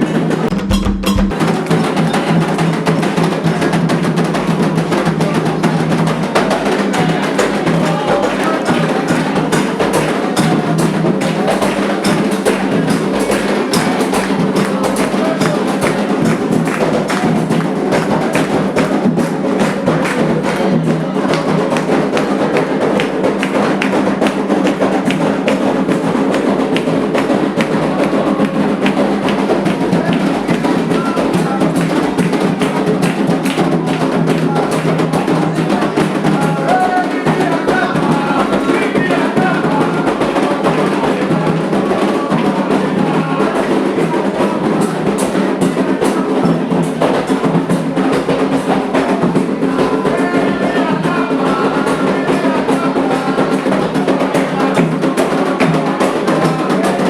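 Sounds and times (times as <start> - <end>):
hand drums playing fast rhythm: 0.0 - 57.0.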